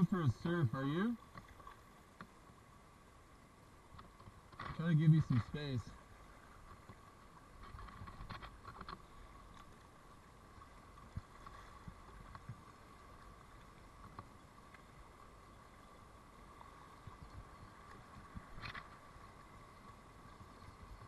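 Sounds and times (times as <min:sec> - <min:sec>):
kayak paddle splashes: 0:00.0 - 0:21.0.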